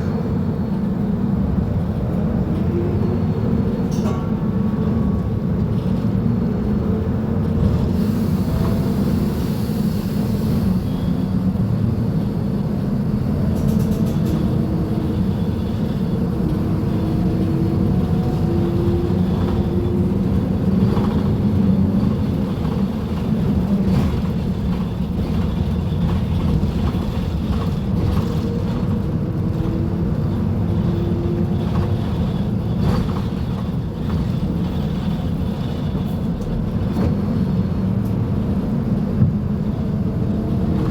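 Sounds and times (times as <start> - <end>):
diesel bus engine running: 0.0 - 40.9.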